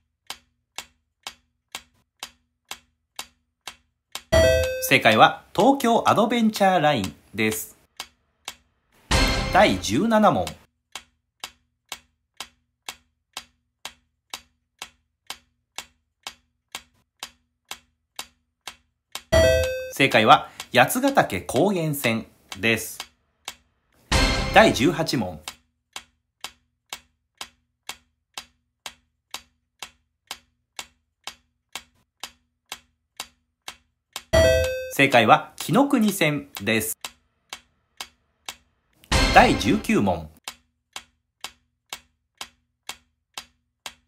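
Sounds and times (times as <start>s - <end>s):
clock-like timer ticking: 0.0s - 44.0s.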